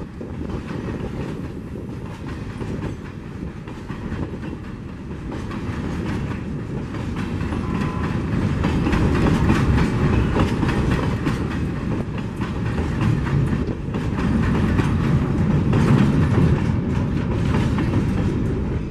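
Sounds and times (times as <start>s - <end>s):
freight train rumbling: 0.0s - 18.9s
wheels clicking over rail joints: 0.0s - 18.9s.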